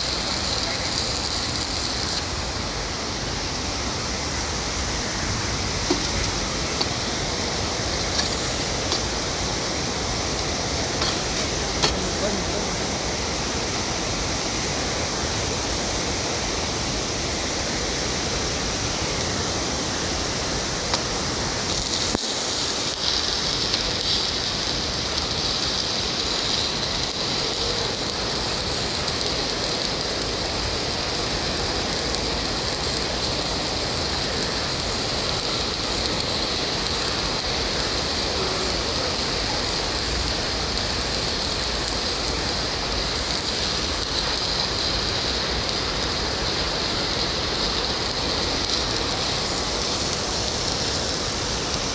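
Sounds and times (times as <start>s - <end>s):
background hiss: 0.0s - 51.9s
welding arc hissing crackle: 0.0s - 51.9s.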